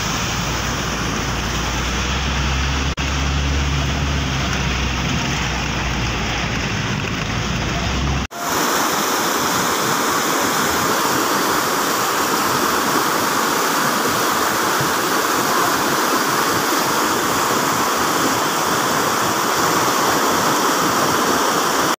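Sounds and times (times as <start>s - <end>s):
river rushing over boulders: 0.0s - 22.0s.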